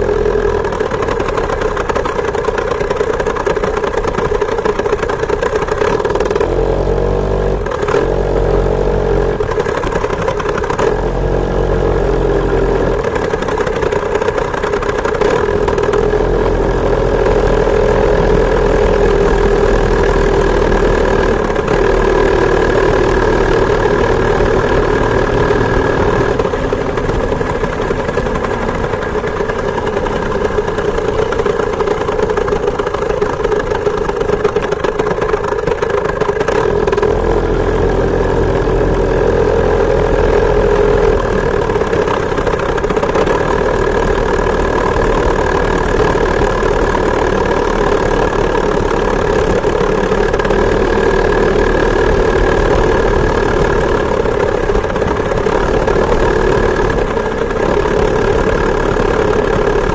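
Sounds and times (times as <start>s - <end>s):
two-stroke moped engine running: 0.0s - 59.9s.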